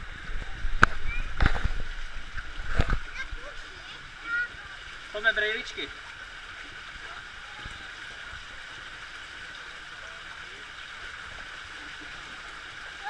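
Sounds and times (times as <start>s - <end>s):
water rushing down a slide: 0.0s - 13.0s.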